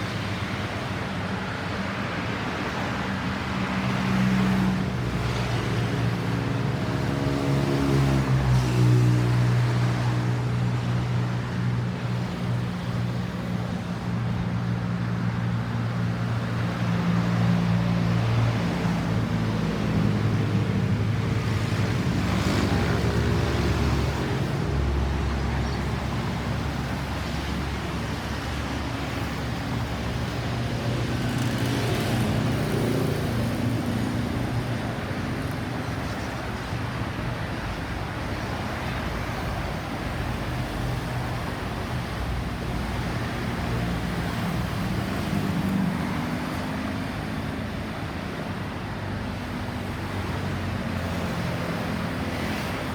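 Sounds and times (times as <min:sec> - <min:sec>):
road noise: 0:00.0 - 0:52.9.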